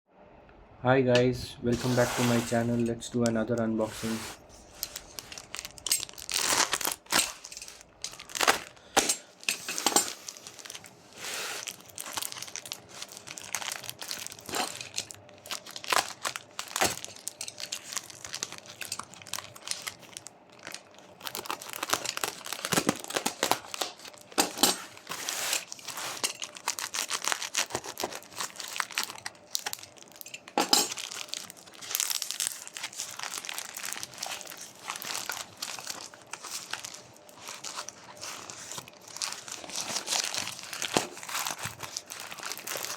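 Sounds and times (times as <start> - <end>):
packaging crinkling: 1.8 - 42.9.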